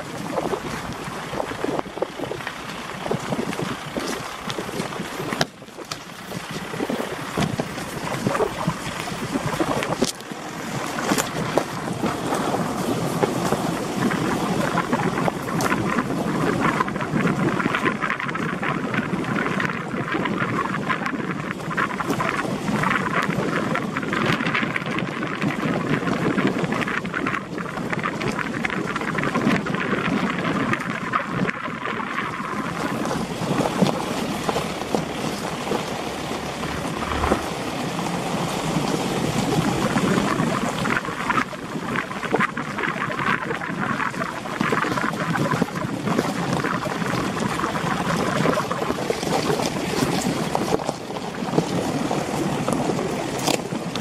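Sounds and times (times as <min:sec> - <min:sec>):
rumble on a stony dirt track: 0:00.0 - 0:54.0.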